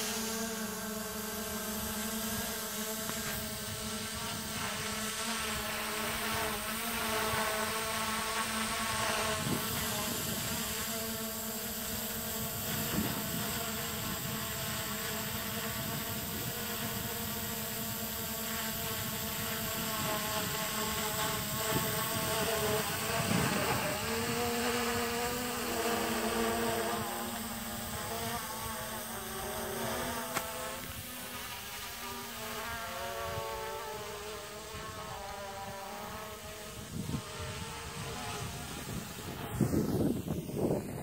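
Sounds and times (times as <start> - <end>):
quadcopter motors buzzing: 0.0 - 41.0.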